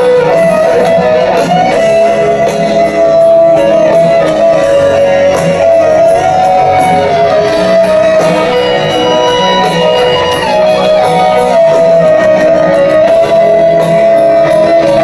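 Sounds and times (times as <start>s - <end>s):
rock band playing a ballad: 0.0s - 15.0s.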